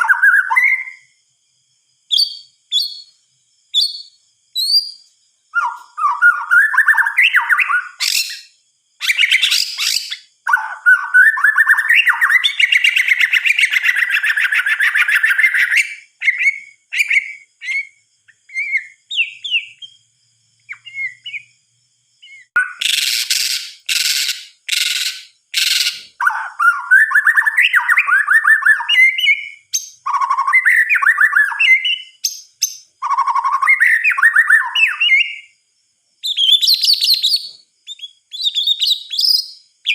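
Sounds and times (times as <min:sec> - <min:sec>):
bird singing whistled phrases: 0:00.0 - 0:01.2, 0:02.1 - 0:20.1, 0:20.7 - 0:21.5, 0:22.2 - 0:35.5, 0:36.2 - 0:39.9.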